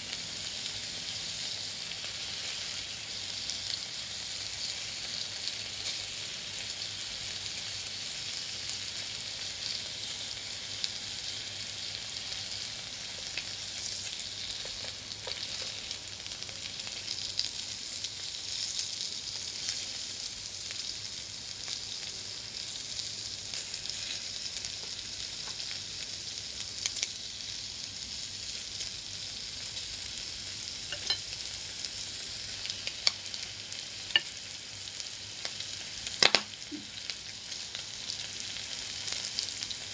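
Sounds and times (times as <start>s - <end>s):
meat sizzling on grill: 0.0s - 39.9s.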